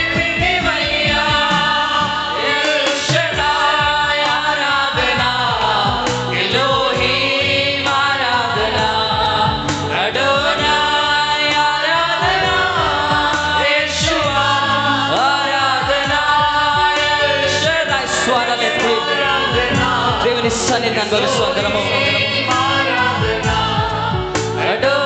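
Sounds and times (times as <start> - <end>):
instrumental backing with steady beat: 0.0 - 25.0
men and women singing together: 0.0 - 25.0.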